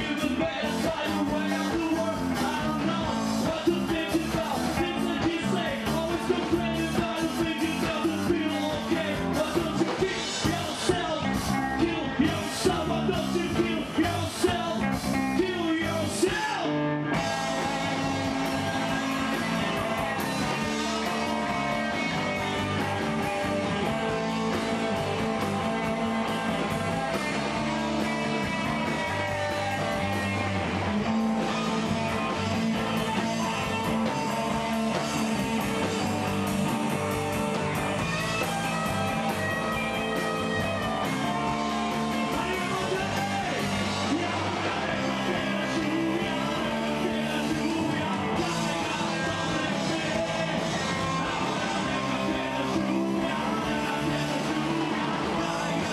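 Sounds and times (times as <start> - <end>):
electric guitar: 0.0 - 55.9.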